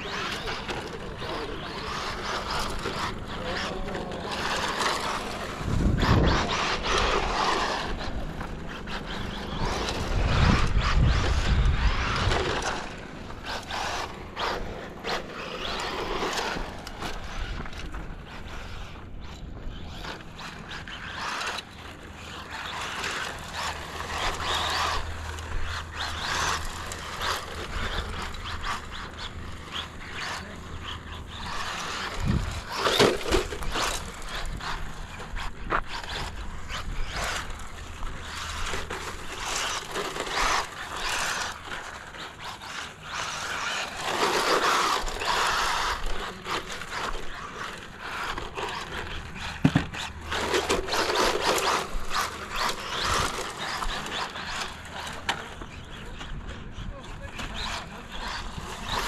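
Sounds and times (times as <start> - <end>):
electric motor whining: 0.0 - 59.0.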